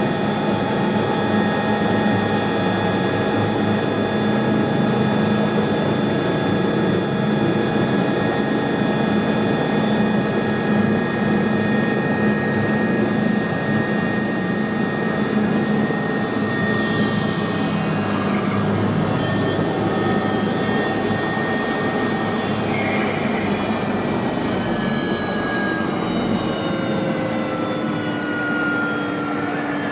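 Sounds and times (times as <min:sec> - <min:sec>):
turbine engine whine: 0:00.0 - 0:29.9.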